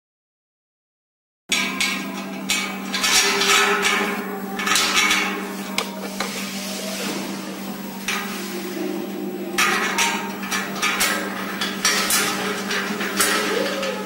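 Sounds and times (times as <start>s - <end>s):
metallic clattering and scraping: 1.5s - 14.0s
steady low hum: 1.5s - 14.0s.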